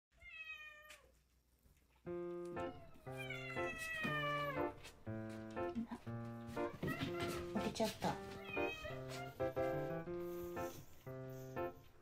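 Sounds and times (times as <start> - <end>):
background music: 2.1 - 12.0.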